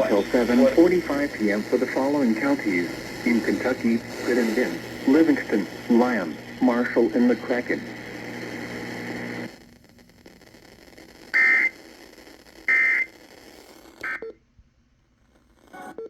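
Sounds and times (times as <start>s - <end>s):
steady broadcast hum: 0.0s - 14.2s.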